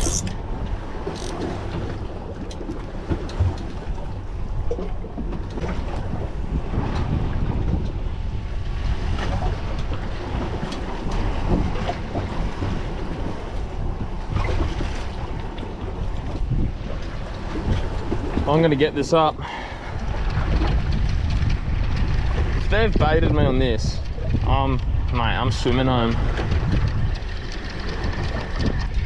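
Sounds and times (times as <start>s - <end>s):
waves washing against boat hull: 0.0s - 29.0s
wind buffeting microphone: 0.0s - 29.0s.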